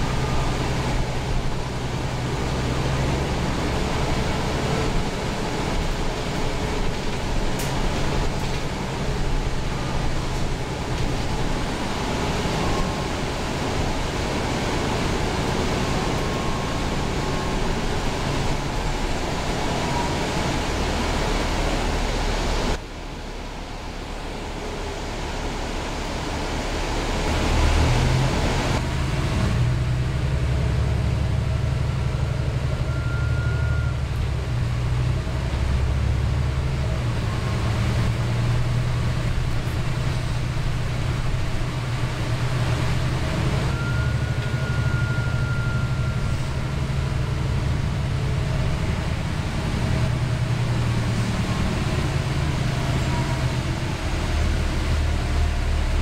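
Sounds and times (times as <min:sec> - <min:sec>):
bus diesel engine drone: 0:00.0 - 0:56.0
road noise: 0:00.0 - 0:56.0.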